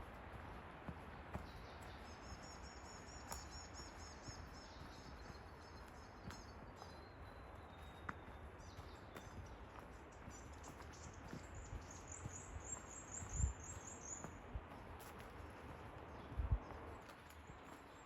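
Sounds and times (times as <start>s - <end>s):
footsteps clicking on track: 0.0s - 18.0s.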